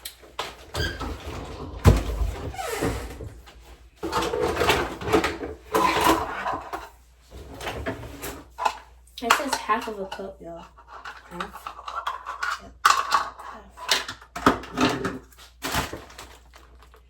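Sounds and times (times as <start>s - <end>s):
rustling and clattering: 0.3s - 9.0s, 10.7s - 17.0s.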